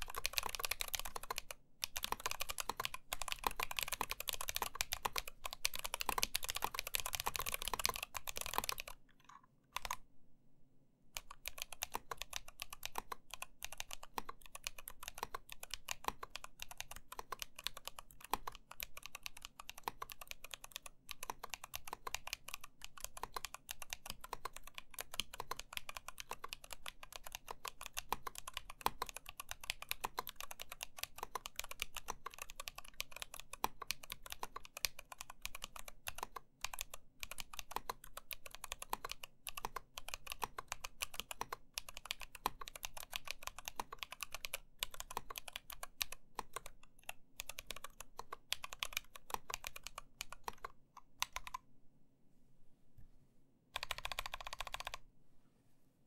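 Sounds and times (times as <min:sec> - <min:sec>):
fast mechanical keyboard typing: 0:00.0 - 0:10.0, 0:11.2 - 0:51.6, 0:53.8 - 0:55.0.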